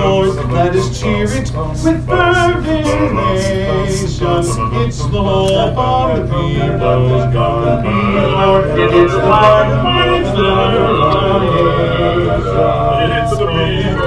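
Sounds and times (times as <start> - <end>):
male vocal quartet singing: 0.0 - 14.0.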